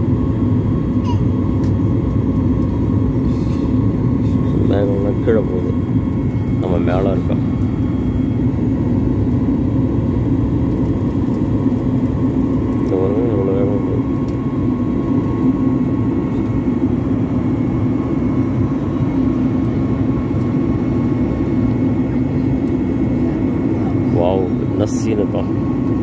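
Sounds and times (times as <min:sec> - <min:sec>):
airliner cabin engine drone: 0:00.0 - 0:26.0.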